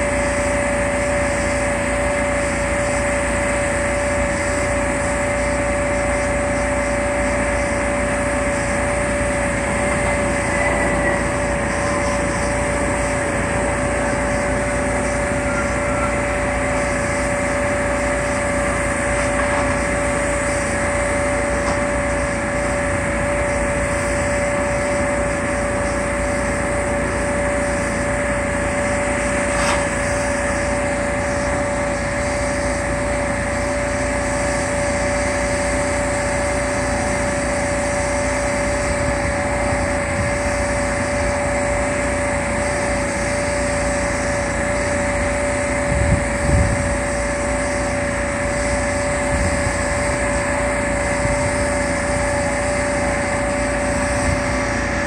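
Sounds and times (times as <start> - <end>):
constant whine: 0.0 - 55.0
engine running: 0.0 - 55.0.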